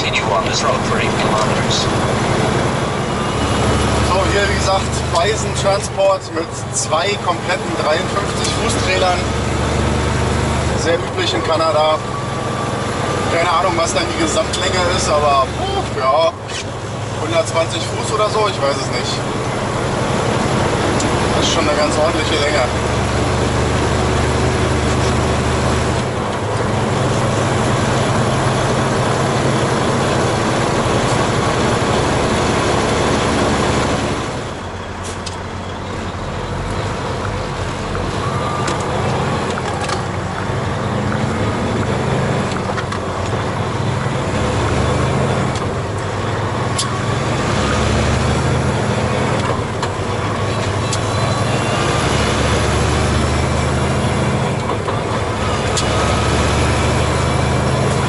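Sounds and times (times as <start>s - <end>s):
diesel truck engine: 0.0s - 58.0s
road noise: 0.0s - 58.0s.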